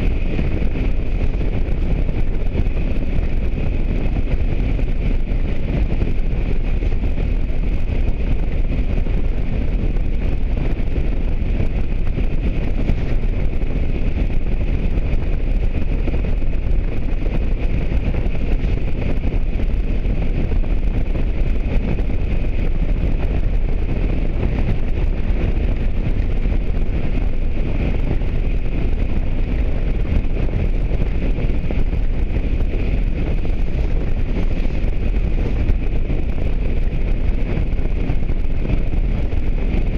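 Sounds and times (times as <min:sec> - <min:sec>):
motorcycle engine and road noise: 0:00.0 - 0:39.9
wind rush over microphone: 0:00.0 - 0:39.9.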